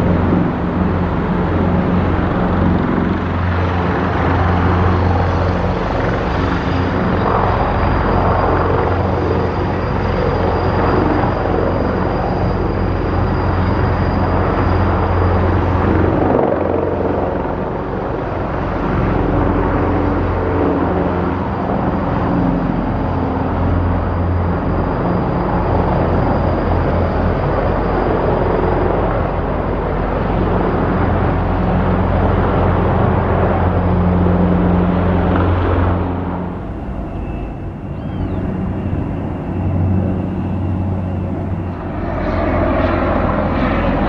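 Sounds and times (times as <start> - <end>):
helicopter rotor: 0.0 - 44.0
high turbine whine: 0.0 - 44.0.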